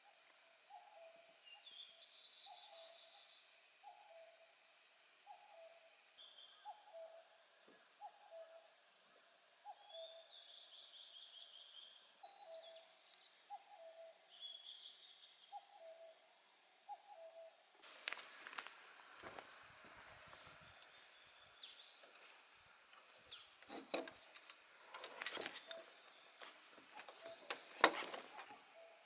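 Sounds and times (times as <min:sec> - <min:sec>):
small birds chirping: 0:00.0 - 0:04.5, 0:05.3 - 0:24.6, 0:25.3 - 0:29.0.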